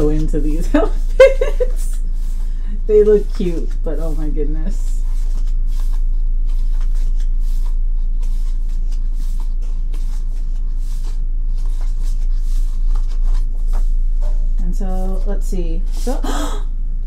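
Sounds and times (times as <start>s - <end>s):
book pages turning: 0.0s - 16.0s
steady low hum: 0.0s - 17.0s.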